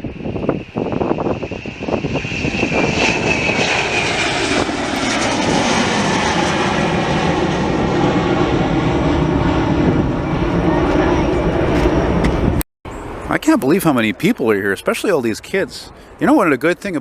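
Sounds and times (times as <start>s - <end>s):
airliner engines roaring: 0.0s - 17.0s.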